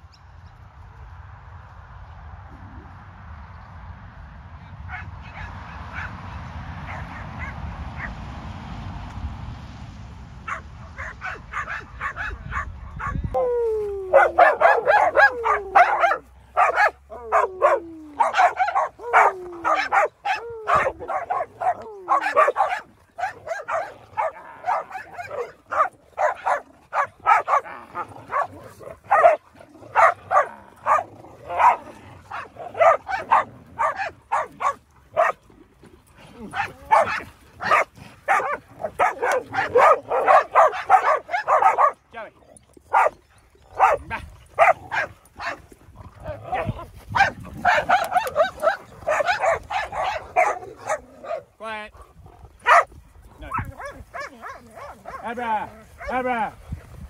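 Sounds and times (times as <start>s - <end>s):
dogs barking and yipping: 4.8s - 8.3s, 10.4s - 56.5s.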